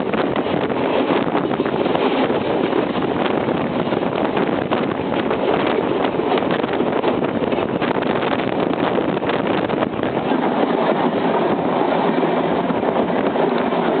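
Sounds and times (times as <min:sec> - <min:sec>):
tram rattling: 0:00.0 - 0:14.0
tram rumbling: 0:00.0 - 0:14.0.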